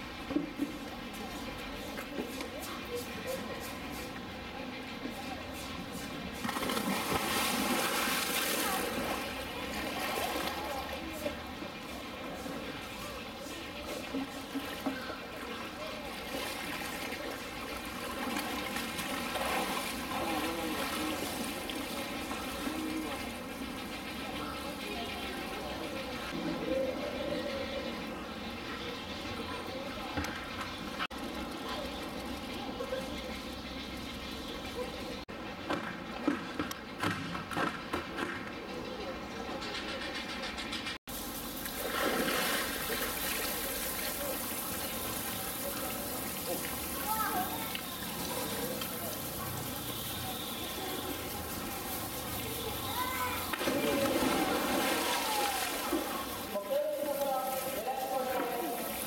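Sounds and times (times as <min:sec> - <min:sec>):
faint voices murmuring: 0:00.0 - 0:35.5, 0:42.8 - 0:59.0
water splashing and trickling: 0:05.0 - 0:27.8, 0:28.4 - 0:37.7, 0:41.1 - 0:59.0.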